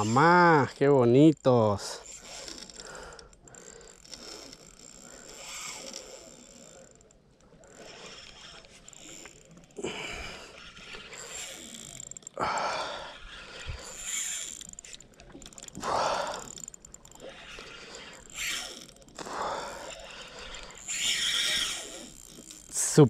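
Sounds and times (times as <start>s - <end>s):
fishing reel cranking: 0.0s - 23.0s
reel and drag clicks: 0.0s - 23.0s.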